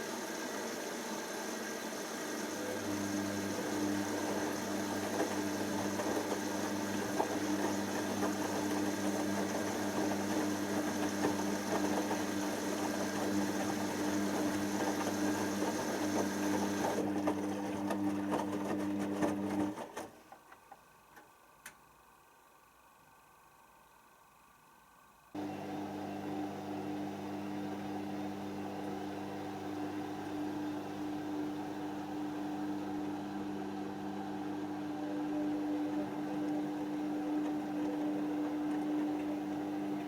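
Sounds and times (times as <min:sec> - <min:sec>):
washing machine humming: 0:00.0 - 0:20.4, 0:25.4 - 0:40.0.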